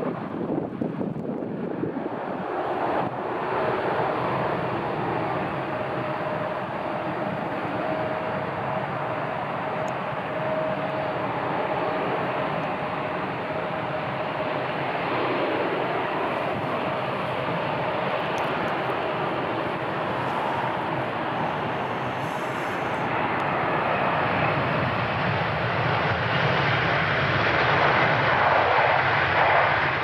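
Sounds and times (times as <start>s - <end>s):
jet airliner engine rush: 0.0s - 30.0s.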